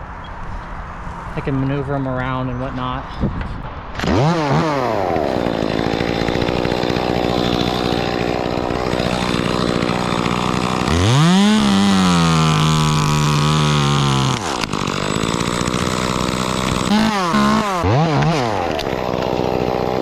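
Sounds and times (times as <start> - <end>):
chainsaw revving: 4.0 - 20.0.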